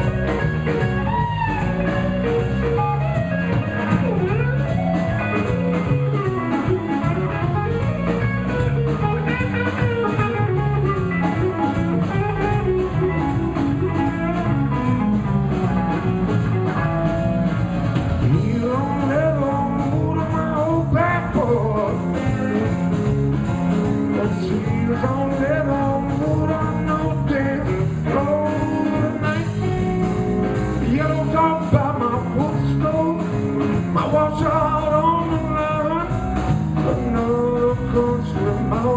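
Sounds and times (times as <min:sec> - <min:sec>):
blues band playing: 0:00.0 - 0:38.9
electric guitar lead: 0:00.0 - 0:38.9.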